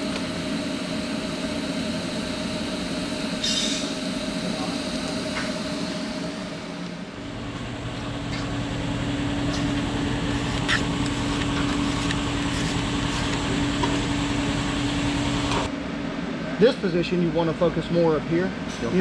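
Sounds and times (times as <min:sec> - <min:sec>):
welding arc buzzing: 0:00.0 - 0:15.7
welding machine hum: 0:00.0 - 0:15.7
shop fans: 0:00.0 - 0:19.0.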